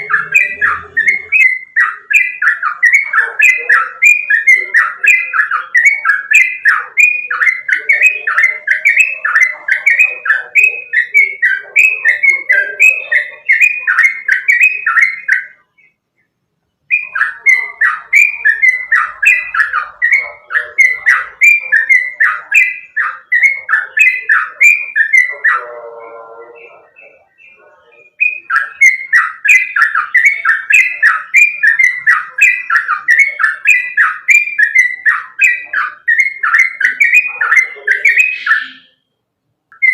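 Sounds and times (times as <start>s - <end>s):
bird singing chattering notes: 0.0s - 39.9s
low rough bird call: 0.0s - 39.9s.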